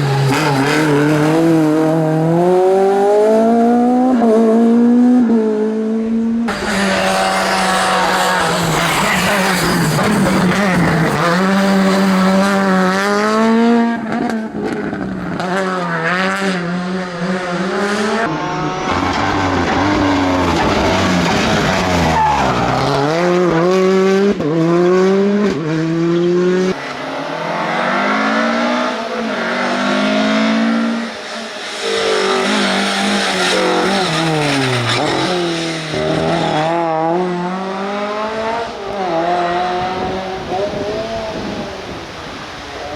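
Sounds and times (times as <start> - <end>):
rally car engine revving hard: 0.0 - 42.6.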